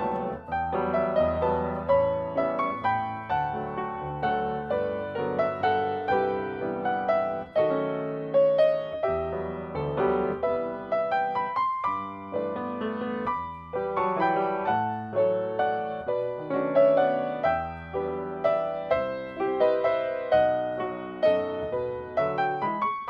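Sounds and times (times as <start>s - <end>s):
grand piano playing: 0.0s - 23.0s.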